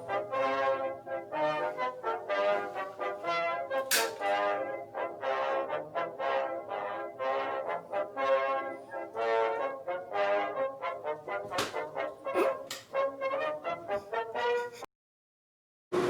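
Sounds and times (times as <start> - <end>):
brass music with held notes: 0.0 - 14.9.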